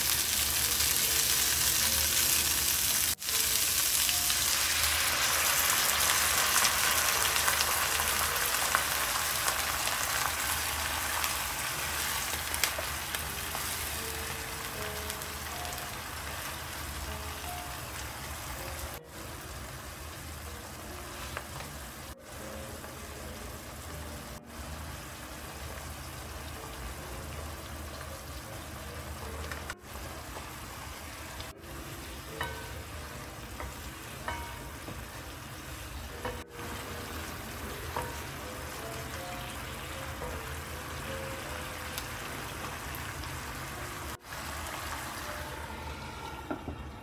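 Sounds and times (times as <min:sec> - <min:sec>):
food sizzling in a wok: 0:00.0 - 0:47.0.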